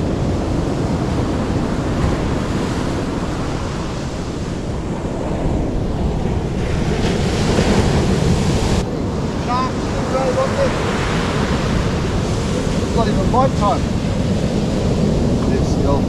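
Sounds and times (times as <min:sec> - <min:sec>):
waves breaking on beach: 0:00.0 - 0:16.0
wind noise on microphone: 0:00.0 - 0:16.0.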